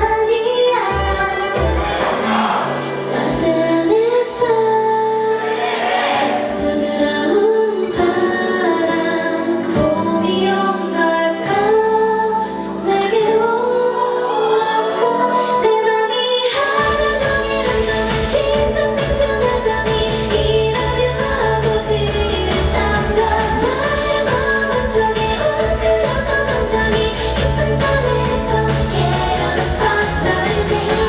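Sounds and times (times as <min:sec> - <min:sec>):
backing track: 0:00.0 - 0:04.6, 0:05.4 - 0:31.0
women singing pop song: 0:00.0 - 0:31.0.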